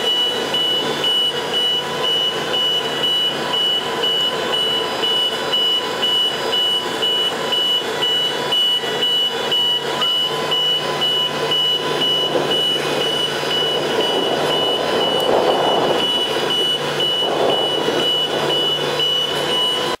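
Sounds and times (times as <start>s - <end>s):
high warning beeps: 0.0s - 20.0s
hoist engine running: 0.0s - 20.0s.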